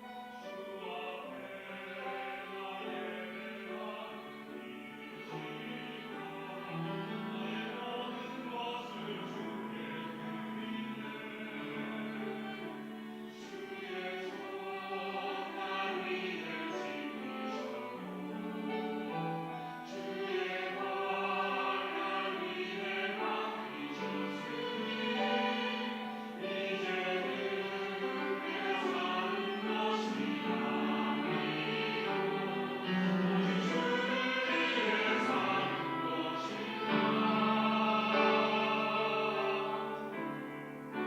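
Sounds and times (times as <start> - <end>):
choir singing in harmony: 0.0 - 41.0.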